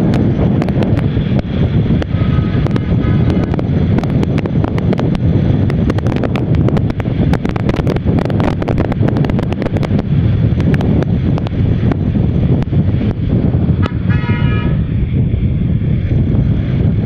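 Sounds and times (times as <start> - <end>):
motorcycle and road noise: 0.0 - 17.0
wind rushing over microphone: 0.0 - 17.0.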